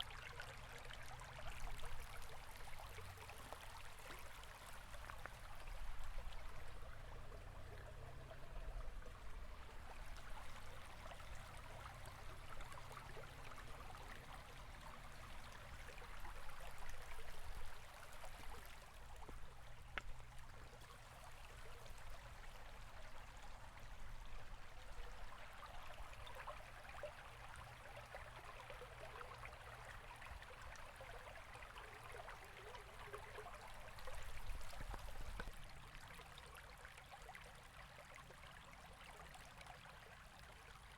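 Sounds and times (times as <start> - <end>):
stream water babbling over stones: 0.0 - 40.9.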